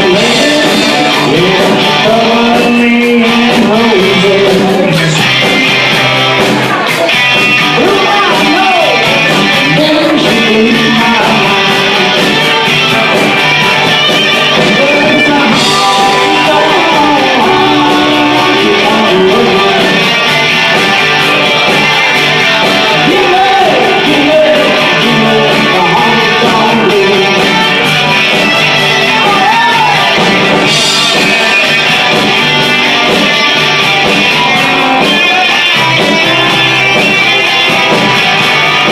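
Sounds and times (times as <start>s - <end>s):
band playing honky-tonk music: 0.0s - 38.9s
guitar: 0.0s - 38.9s.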